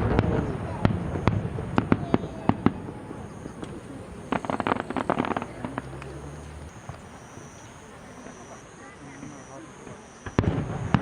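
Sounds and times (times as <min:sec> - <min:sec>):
firework bangs: 0:00.0 - 0:11.0
firework crackling: 0:00.0 - 0:11.0.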